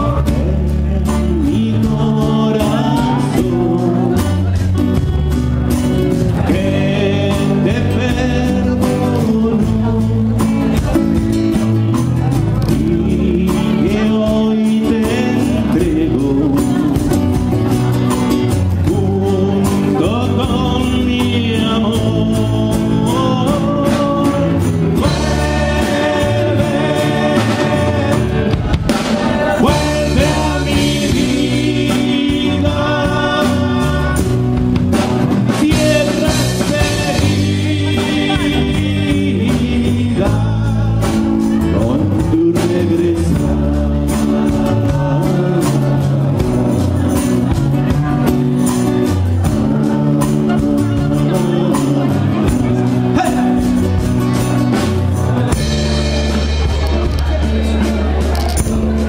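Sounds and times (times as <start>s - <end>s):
man singing into microphone: 0.0s - 55.7s
acoustic guitar: 0.0s - 59.0s
congas: 0.0s - 59.0s
drum kit: 0.0s - 59.0s
electric guitar: 0.0s - 59.0s.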